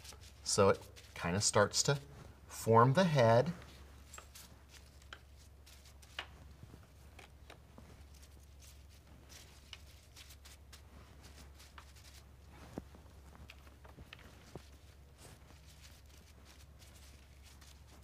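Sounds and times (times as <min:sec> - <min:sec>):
flower stems rustling in hands: 0:00.0 - 0:18.0.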